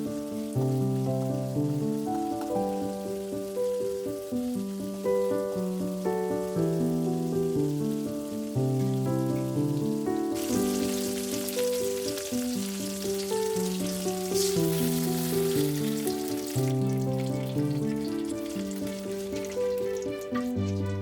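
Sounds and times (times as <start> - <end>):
food sizzling in hot oil: 0.0 - 21.0
melodic background music: 0.0 - 21.0.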